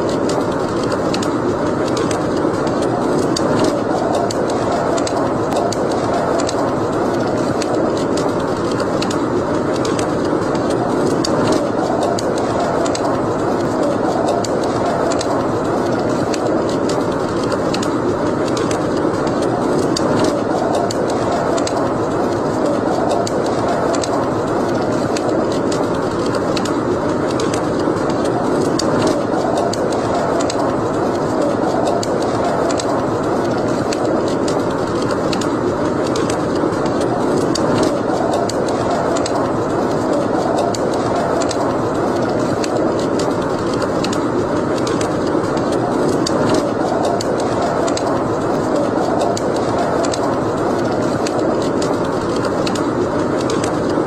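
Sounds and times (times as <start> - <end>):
fire crackling and popping: 0.0 - 54.0
fire flames rushing: 0.0 - 54.0.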